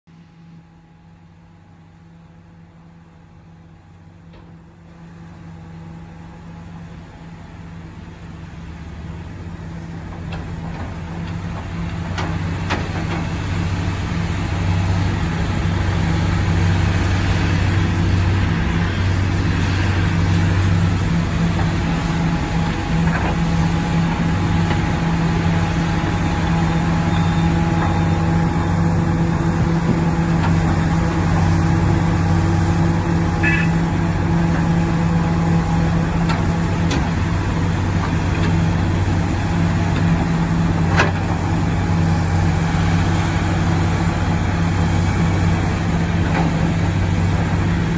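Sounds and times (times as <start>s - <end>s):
excavator diesel engine running: 0.1s - 47.9s.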